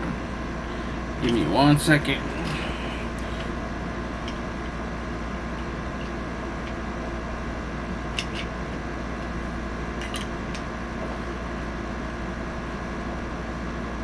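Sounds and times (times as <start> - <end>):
fan-like hum: 0.0 - 14.0.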